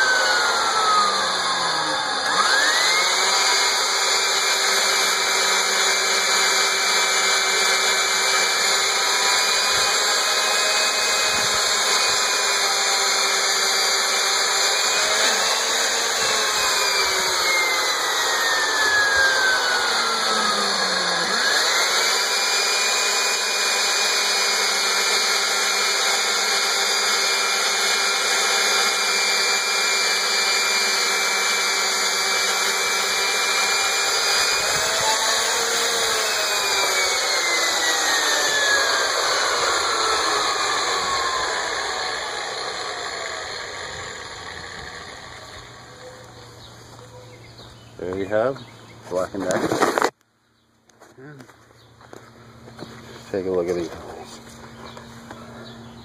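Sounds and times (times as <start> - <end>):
electric drill boring into wood: 0.0 - 46.7, 49.1 - 50.2.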